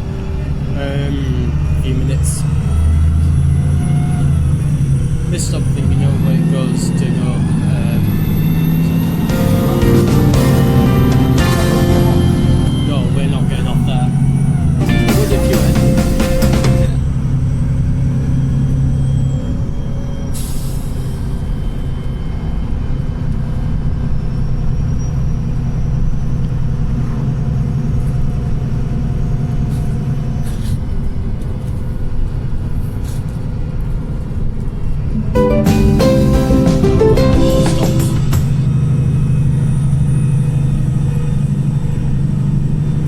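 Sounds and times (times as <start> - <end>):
bus engine humming: 0.0 - 43.0.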